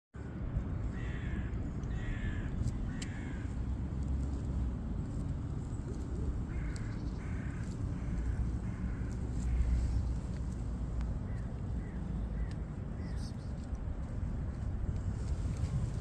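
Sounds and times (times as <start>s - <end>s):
steady low rumble: 0.2s - 16.0s.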